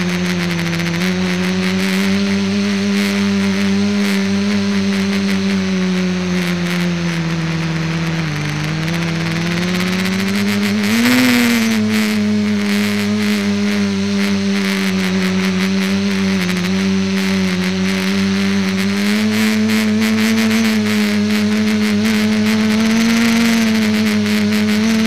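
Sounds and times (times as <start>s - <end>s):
drone motors and propellers humming: 0.0s - 25.0s.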